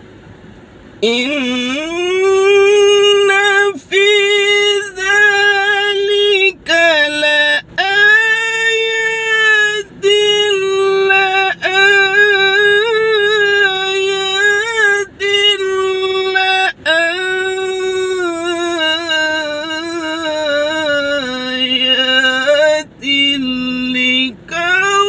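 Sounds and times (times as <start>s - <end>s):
man reciting melodically: 1.0s - 25.0s.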